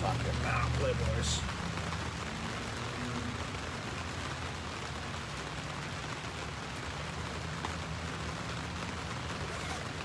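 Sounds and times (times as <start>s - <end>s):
rain on a tent roof: 0.0s - 10.0s.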